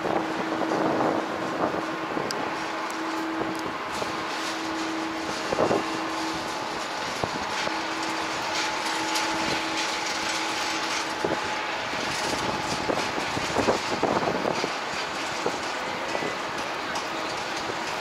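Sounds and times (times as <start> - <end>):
jet airliner engine noise: 0.0 - 18.0.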